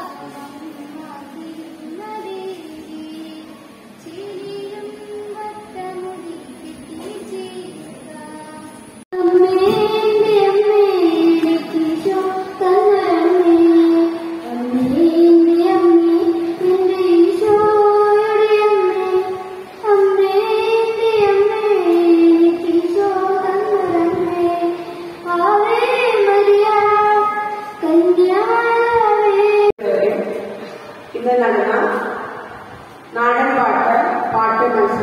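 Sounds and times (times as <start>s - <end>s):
boy singing into a microphone: 0.0s - 29.7s.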